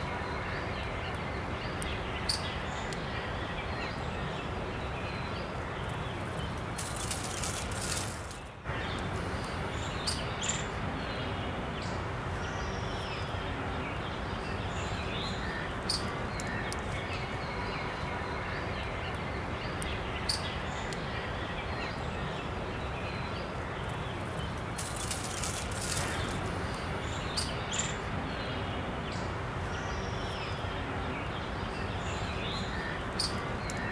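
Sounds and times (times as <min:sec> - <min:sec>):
steady background hiss: 0:00.0 - 0:33.9.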